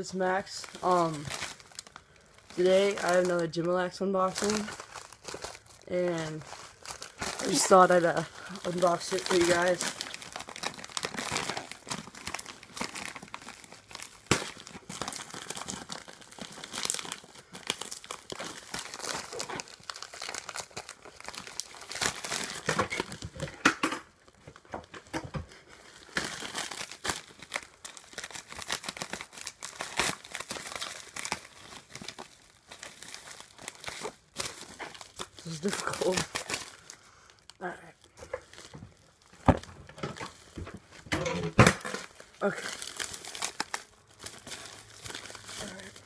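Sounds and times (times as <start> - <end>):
wrapping tearing: 0.0 - 23.5, 24.1 - 46.0
package wrapping crinkling: 0.0 - 46.0.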